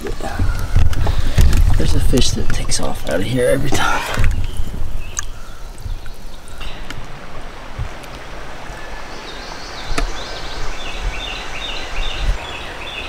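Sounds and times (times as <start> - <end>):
creek water rushing: 0.0 - 13.0
wind rumbling on microphone: 0.0 - 13.0.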